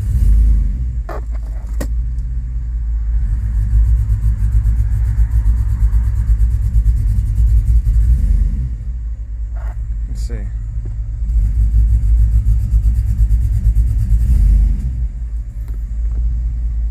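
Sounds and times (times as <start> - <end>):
misfiring engine rumble: 0.0 - 16.9.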